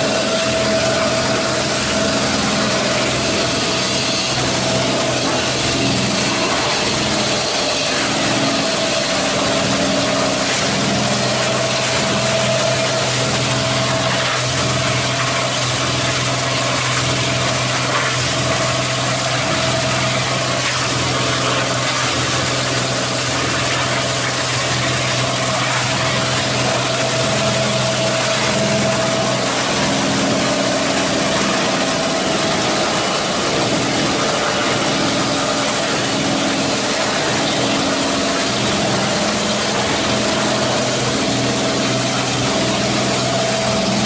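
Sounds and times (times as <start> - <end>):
high machine whine: 0.0 - 44.0
industrial machine hum: 0.0 - 44.0.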